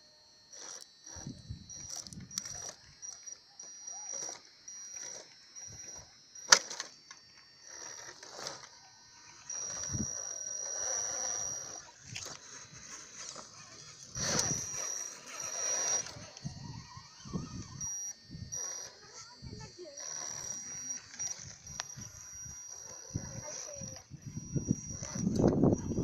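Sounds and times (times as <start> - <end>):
rc car electric motor whining: 0.0 - 26.0.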